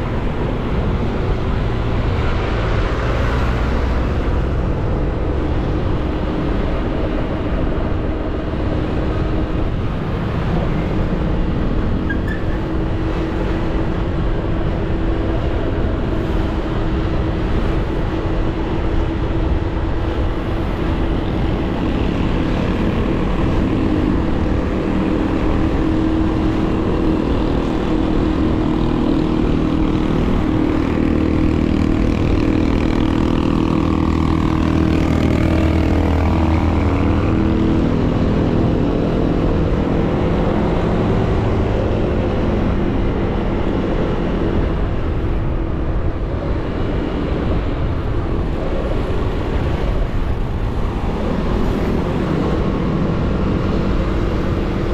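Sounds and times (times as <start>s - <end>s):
motorcycle engine drone: 0.0s - 54.9s
road and wind rush: 0.0s - 54.9s.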